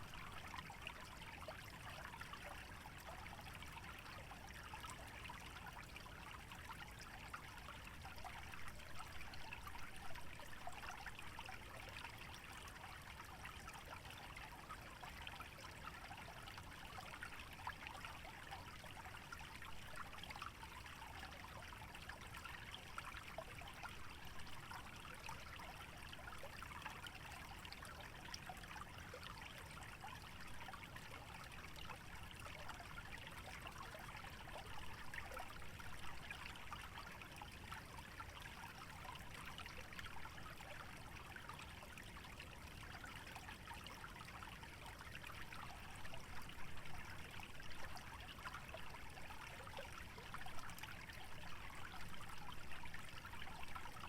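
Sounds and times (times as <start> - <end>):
stream trickling and babbling: 0.0 - 54.0.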